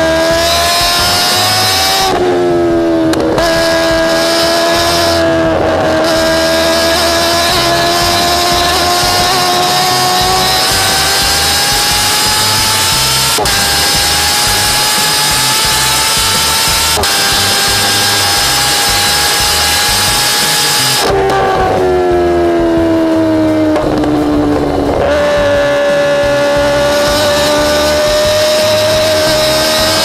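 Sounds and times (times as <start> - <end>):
motorcycle engine high-pitched whine: 0.0 - 30.0.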